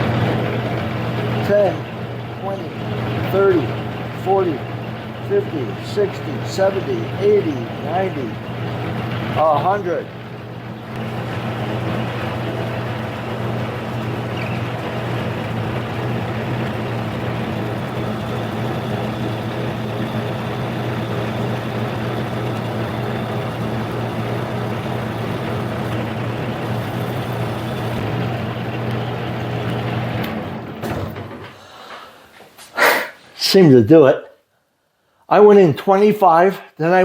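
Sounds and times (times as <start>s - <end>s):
lathe cutting noise: 0.0s - 31.3s
lathe motor hum: 0.0s - 31.6s.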